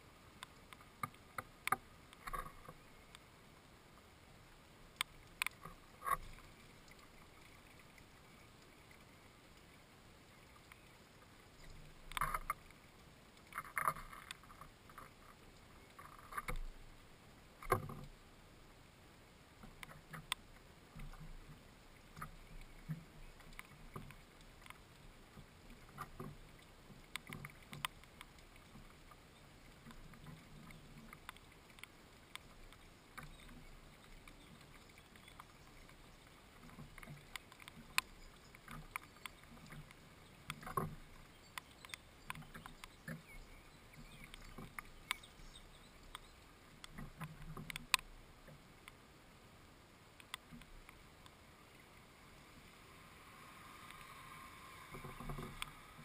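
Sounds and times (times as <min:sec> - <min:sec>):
faint background hiss: 0:00.0 - 0:56.0.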